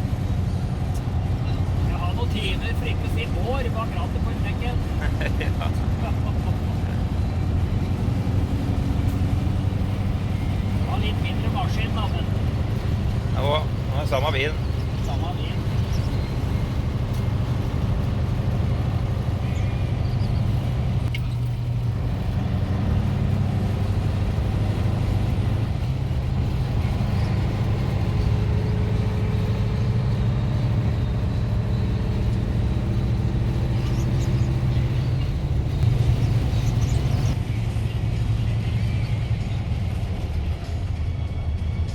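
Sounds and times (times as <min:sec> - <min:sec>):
diesel truck engine drone: 0:00.0 - 0:41.9.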